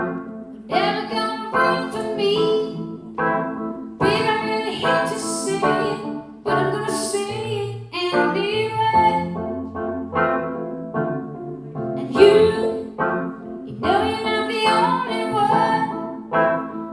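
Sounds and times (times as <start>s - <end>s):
piano playing slow chords: 0.0s - 16.9s.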